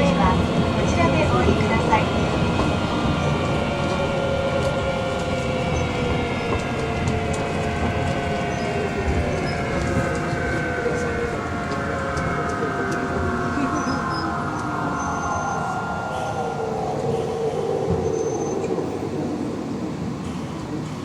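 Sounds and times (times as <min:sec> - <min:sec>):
train motor whine: 0:00.0 - 0:21.0
train running rumble: 0:00.0 - 0:21.0.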